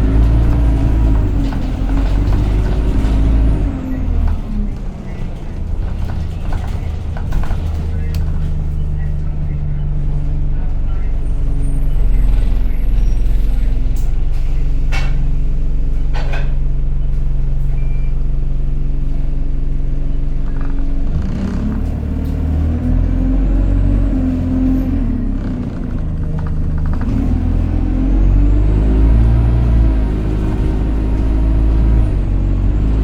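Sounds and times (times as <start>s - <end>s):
bus engine revving: 0.0s - 33.0s.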